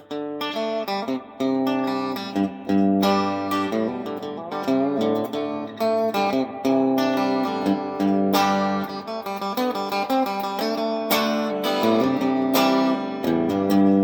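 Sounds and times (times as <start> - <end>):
electric guitar strummed chords: 0.0 - 14.0.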